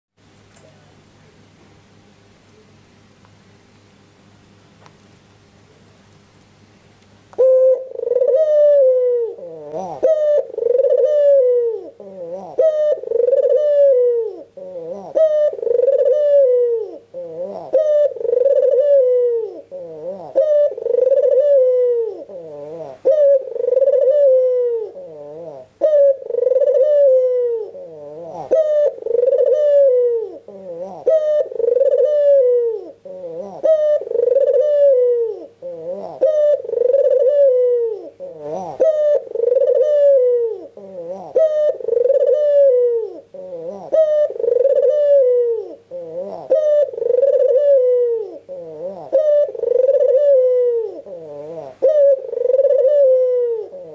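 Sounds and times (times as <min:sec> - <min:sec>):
dove cooing: 0:07.4 - 0:53.9.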